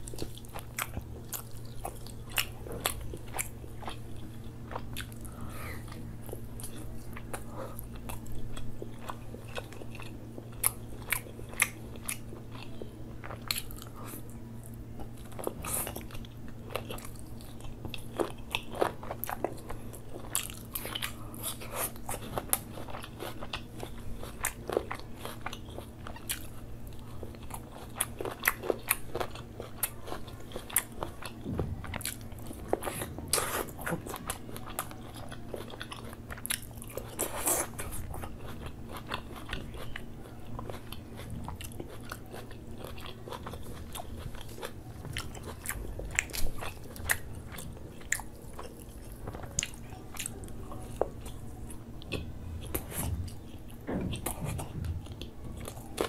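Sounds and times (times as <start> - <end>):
biting and chewing food: 0.0 - 56.0
steady low hum: 0.0 - 56.0.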